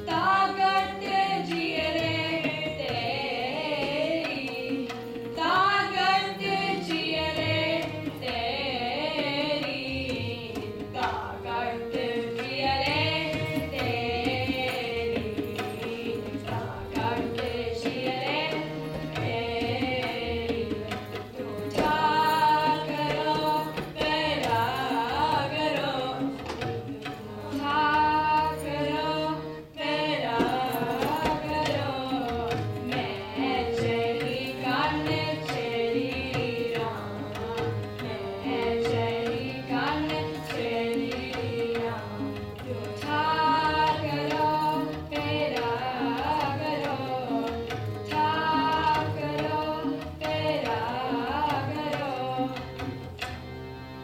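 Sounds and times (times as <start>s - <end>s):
woman singing: 0.0s - 52.9s
tabla drumming: 0.0s - 53.5s
harmonium: 0.0s - 54.0s.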